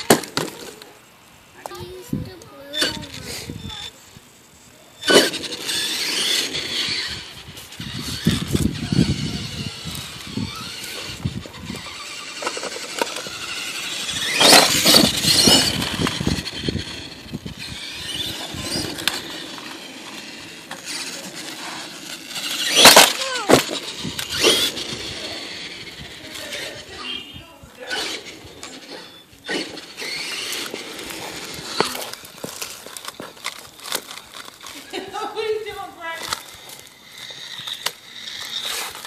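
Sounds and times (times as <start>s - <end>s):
toy truck motor revving: 2.6s - 4.0s, 4.9s - 39.0s.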